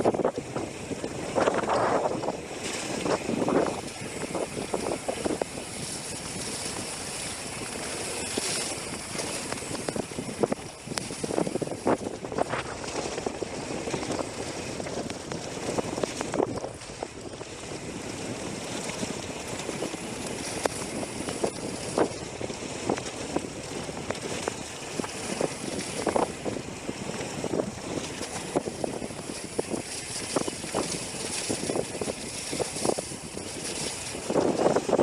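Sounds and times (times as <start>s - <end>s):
bike tyres rolling: 0.0s - 35.0s
wind on microphone: 0.0s - 35.0s.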